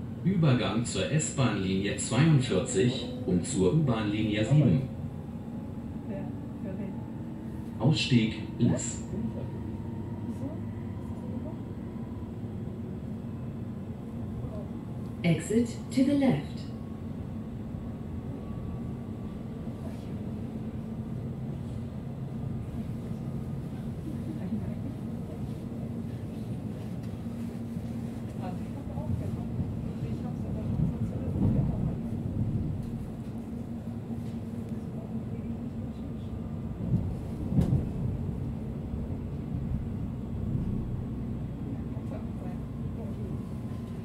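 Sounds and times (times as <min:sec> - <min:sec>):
train interior low rumble: 0:00.0 - 0:44.0.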